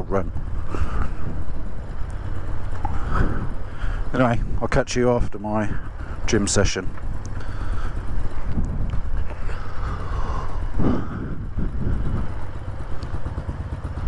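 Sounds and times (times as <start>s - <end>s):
motorcycle engine low rumble: 0.0s - 14.0s.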